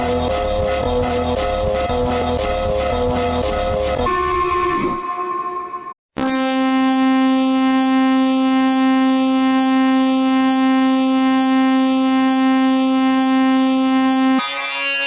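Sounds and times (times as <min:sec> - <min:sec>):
buzzing alarm tone: 0:00.0 - 0:15.0.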